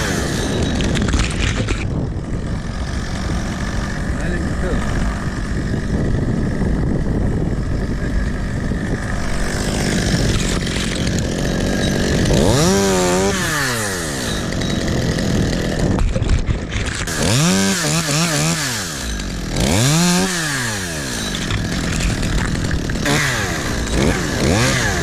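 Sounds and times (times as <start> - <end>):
chainsaw idling and revving: 0.0 - 25.0.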